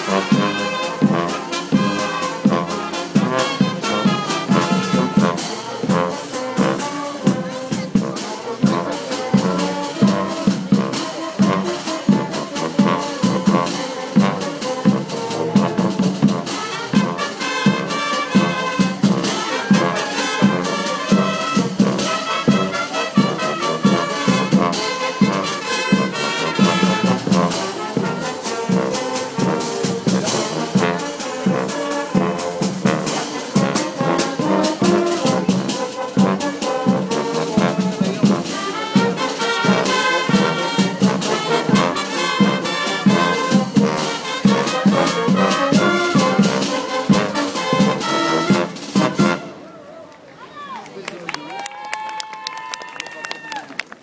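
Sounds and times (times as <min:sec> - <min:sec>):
brass band playing: 0:00.0 - 0:49.7.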